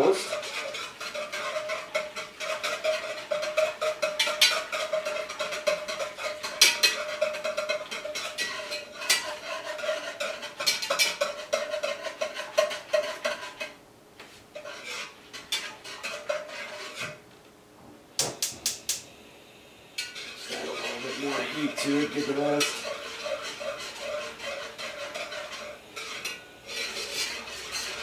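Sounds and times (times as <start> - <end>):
utensil clinking and scraping pot: 0.0 - 13.8, 14.5 - 17.2, 20.0 - 28.0
steady noise with low hum: 0.0 - 28.0.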